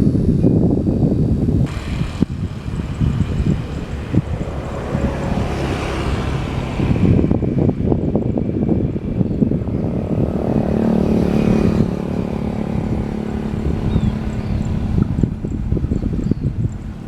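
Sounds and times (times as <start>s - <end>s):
wind buffeting microphone: 0.0s - 17.0s
vehicle engine passing: 1.6s - 17.0s.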